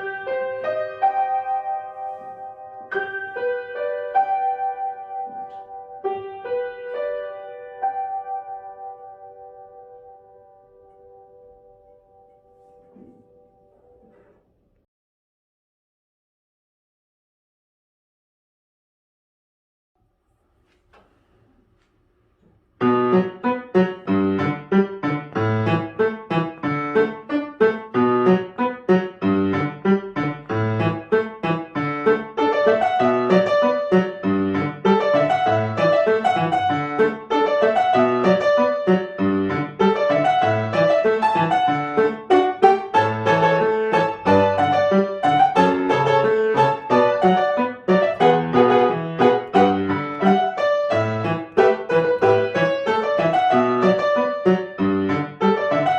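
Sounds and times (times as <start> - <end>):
solo piano piece: 0.0 - 14.4, 22.7 - 55.9.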